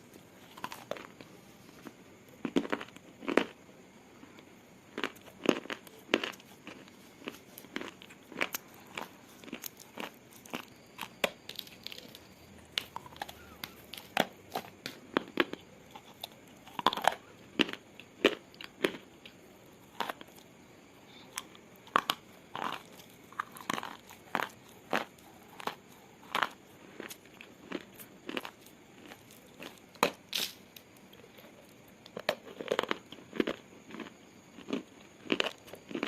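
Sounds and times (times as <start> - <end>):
person chewing something crunchy: 0.4 - 3.6, 4.9 - 36.0.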